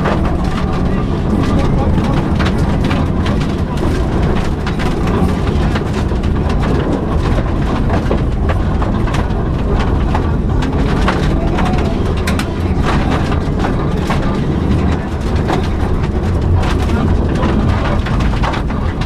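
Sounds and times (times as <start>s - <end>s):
rally car engine and road noise: 0.0s - 19.0s
sharp clicks and knocks: 0.0s - 19.0s.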